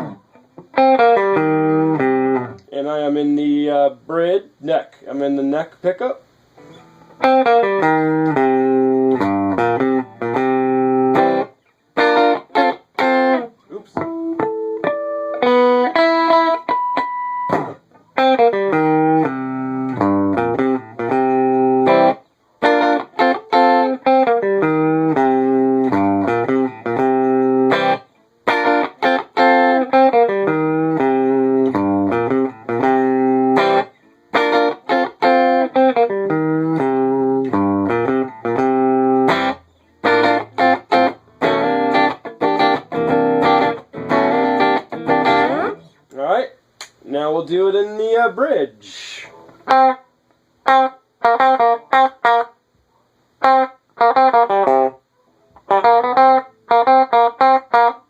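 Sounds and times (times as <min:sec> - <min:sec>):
clean electric guitar: 0:00.0 - 0:02.7, 0:06.6 - 0:47.0, 0:49.3 - 0:52.6, 0:53.4 - 0:58.0.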